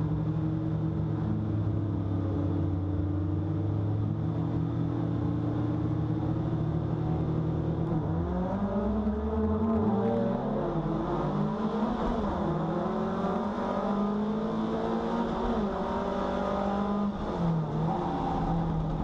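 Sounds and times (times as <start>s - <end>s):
race car engines revving: 0.1s - 19.0s.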